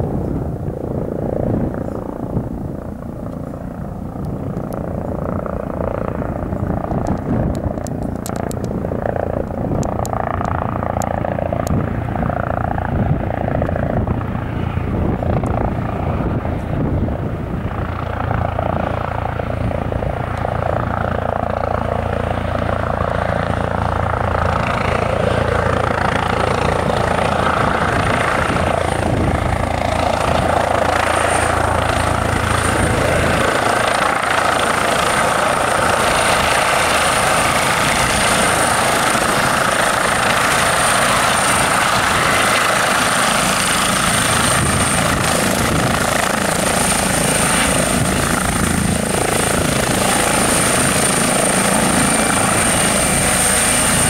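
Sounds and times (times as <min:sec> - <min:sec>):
helicopter rotor and engines: 0:00.0 - 0:54.0.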